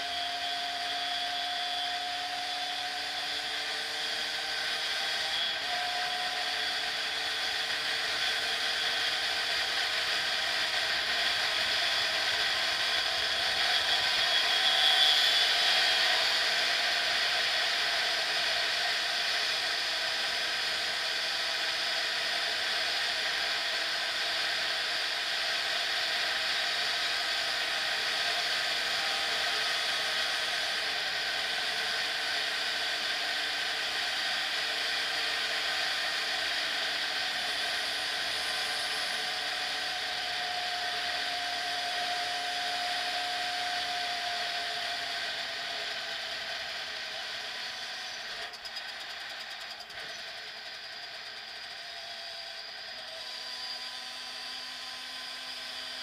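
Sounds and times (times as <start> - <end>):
dirt bike engine at high revs: 0.0 - 56.0.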